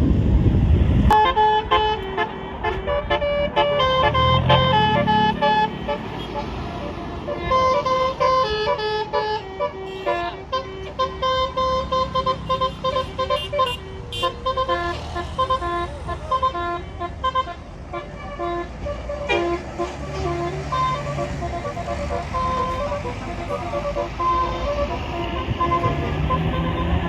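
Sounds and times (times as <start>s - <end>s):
bus engine running: 0.0s - 27.0s
musical bus horn melody: 1.1s - 27.0s.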